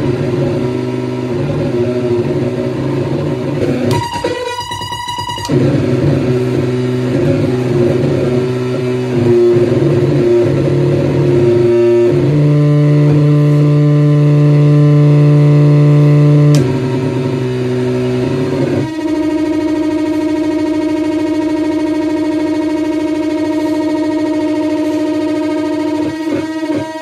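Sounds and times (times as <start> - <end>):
saxophone feedback drone: 0.0 - 27.0.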